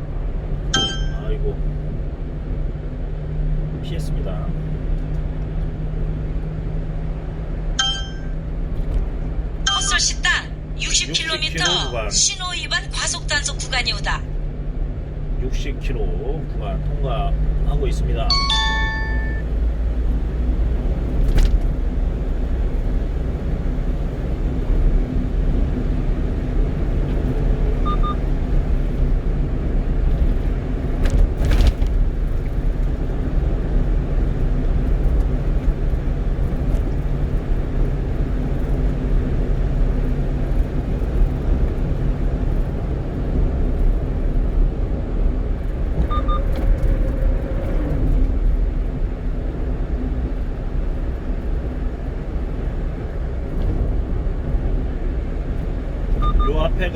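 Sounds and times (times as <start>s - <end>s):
truck engine and tyre rumble: 0.0s - 56.9s.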